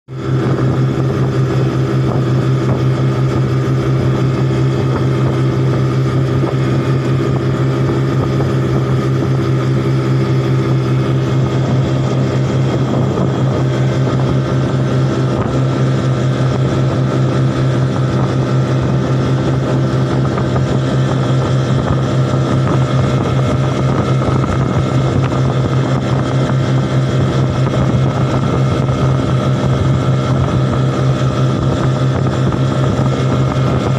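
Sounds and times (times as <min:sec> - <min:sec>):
outboard motor running: 0:00.1 - 0:33.9
water rushing along hull: 0:00.1 - 0:33.9.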